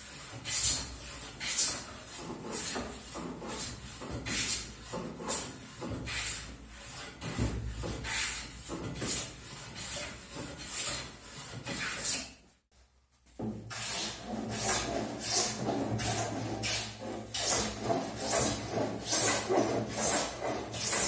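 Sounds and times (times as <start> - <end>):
hand plane shaving wood: 0.0 - 12.3, 13.7 - 21.0.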